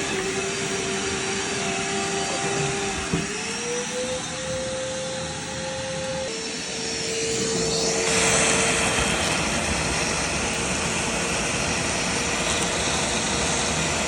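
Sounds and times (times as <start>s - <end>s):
shop vacuum sucking water: 0.0s - 14.0s.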